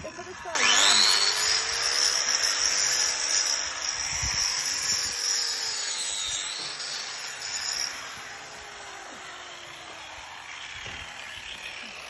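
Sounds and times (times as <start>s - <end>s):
angle grinder grinding: 0.0s - 12.0s.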